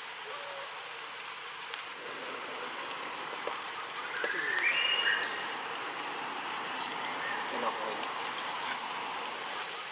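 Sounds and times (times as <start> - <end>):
forest hiss: 0.0 - 9.9.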